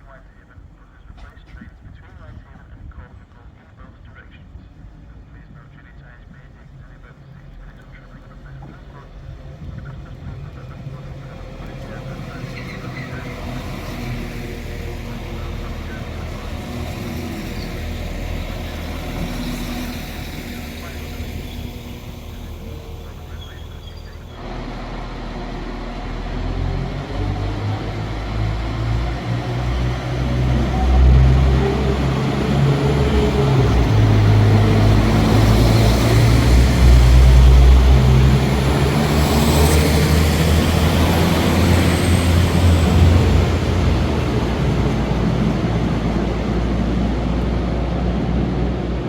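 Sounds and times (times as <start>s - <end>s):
train engine drone: 0.0s - 49.0s.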